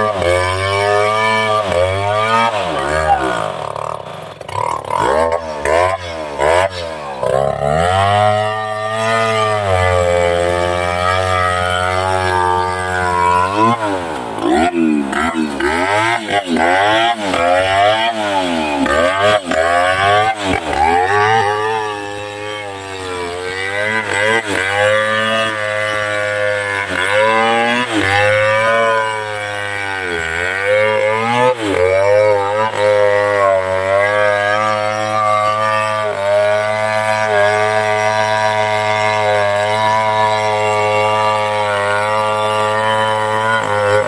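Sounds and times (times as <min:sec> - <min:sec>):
chainsaw cutting trunk: 0:00.0 - 0:44.0.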